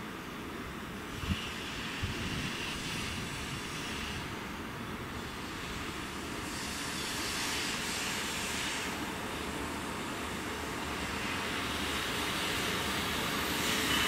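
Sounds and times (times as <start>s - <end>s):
freight train rail rumble and hiss: 0.0s - 14.0s.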